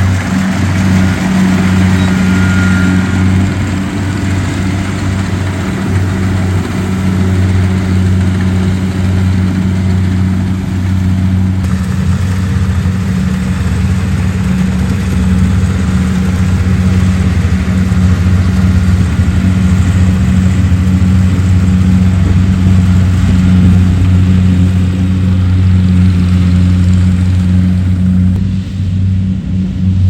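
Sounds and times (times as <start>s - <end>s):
combine harvester engine hum: 0.0s - 30.0s
mechanical rushing noise: 0.0s - 30.0s.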